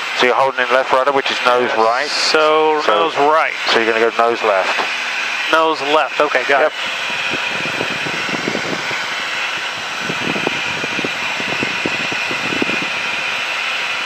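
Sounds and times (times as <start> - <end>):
propeller plane engine drone: 0.0 - 14.0.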